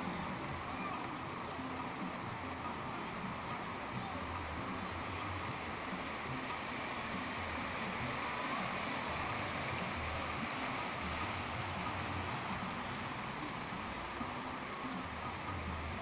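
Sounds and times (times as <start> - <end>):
surf and choppy water rushing: 0.0 - 16.0.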